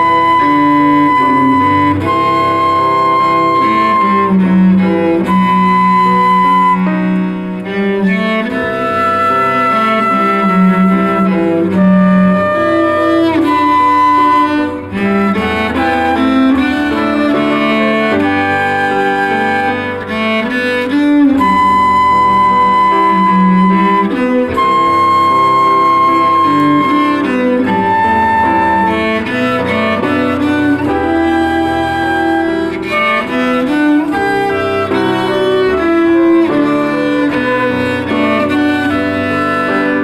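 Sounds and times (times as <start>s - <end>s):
cello: 0.0s - 40.0s
flute long notes: 0.0s - 40.0s
grand piano: 0.0s - 40.0s.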